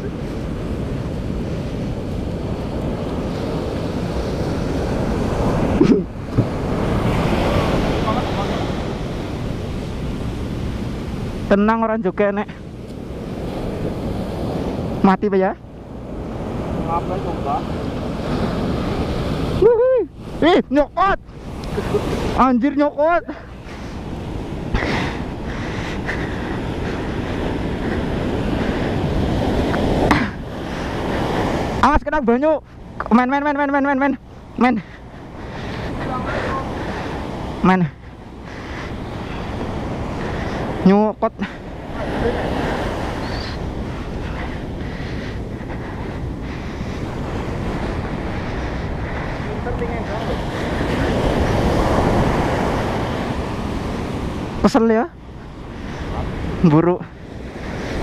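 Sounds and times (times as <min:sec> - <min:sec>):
ocean surf washing: 0:00.0 - 0:58.0
wind rumbling on microphone: 0:00.0 - 0:58.0.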